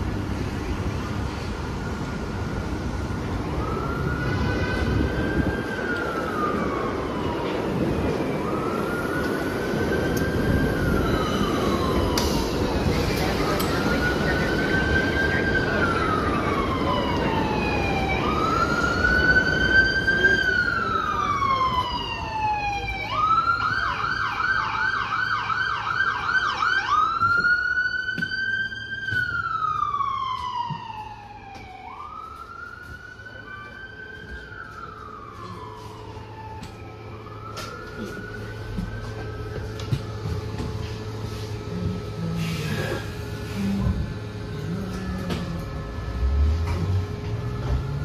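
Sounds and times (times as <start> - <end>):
emergency vehicle siren: 0.0 - 48.0.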